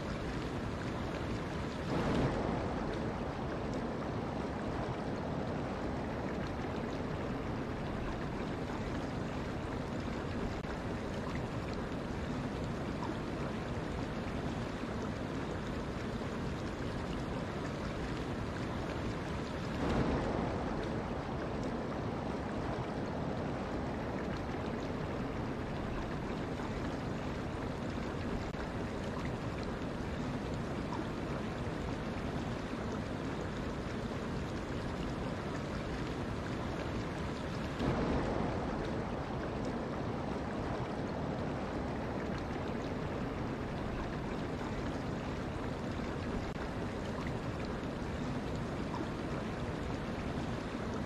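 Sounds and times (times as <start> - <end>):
small water splashes: 0.0 - 51.0
stream flowing over rocks: 0.0 - 51.0.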